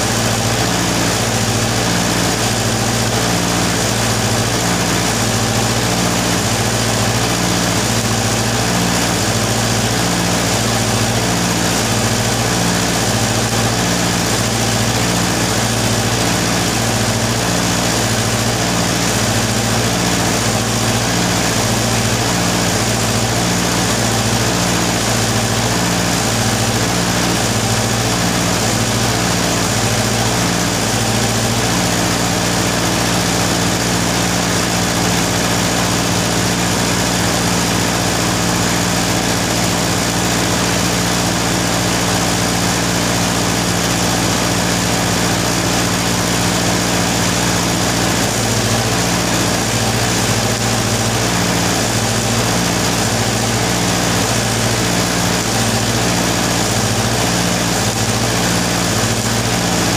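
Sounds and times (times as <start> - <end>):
pulsing machine drone: 0.0 - 59.9
stick welding: 0.0 - 59.9.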